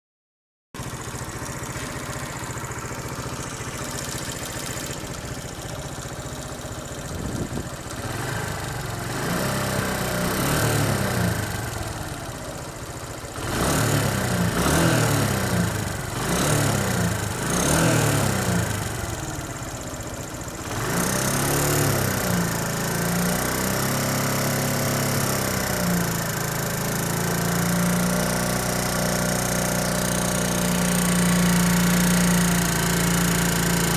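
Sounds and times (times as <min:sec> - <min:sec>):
motorcycle engine idling and revving: 0:00.8 - 0:33.9.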